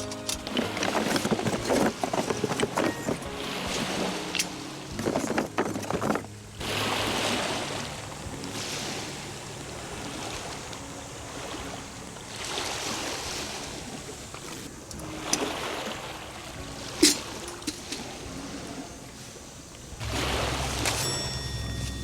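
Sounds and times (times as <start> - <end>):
sea waves washing onto shore: 0.0 - 22.0.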